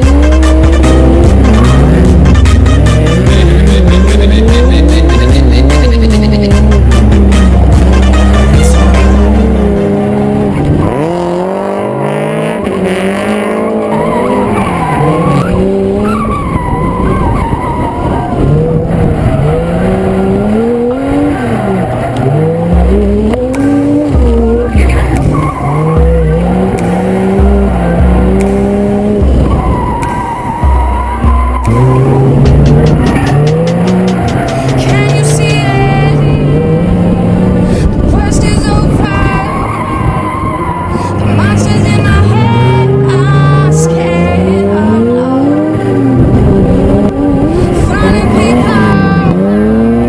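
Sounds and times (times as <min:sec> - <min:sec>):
car engine revving: 0:00.0 - 0:50.0
tyres squealing and skidding: 0:00.0 - 0:50.0.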